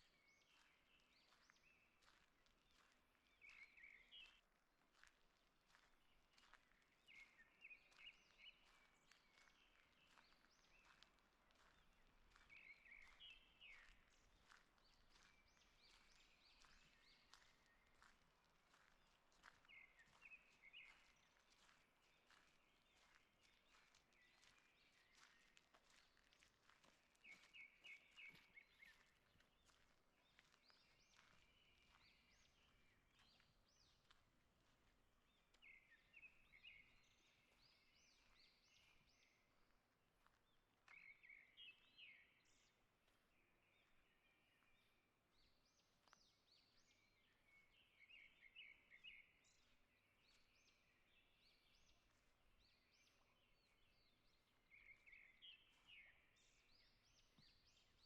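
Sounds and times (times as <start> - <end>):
songbird song phrase: 0.0 - 58.0.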